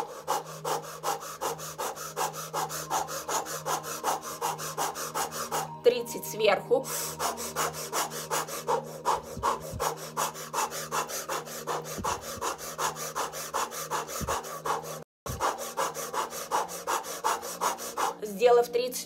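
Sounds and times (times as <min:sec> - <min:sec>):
woman breathing fast: 0:00.0 - 0:05.8, 0:06.8 - 0:18.2.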